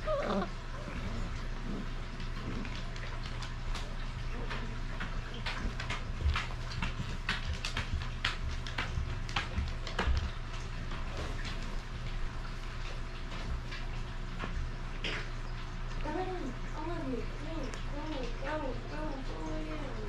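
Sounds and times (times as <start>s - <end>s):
puppies shuffling on bedding: 0.0s - 20.0s
steady low hum: 0.0s - 20.0s.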